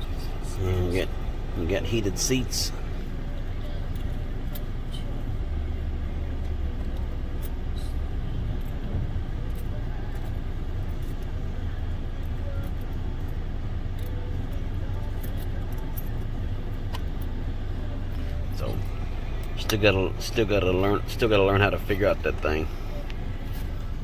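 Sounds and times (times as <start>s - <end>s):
car engine rumble in cabin: 0.0s - 24.0s.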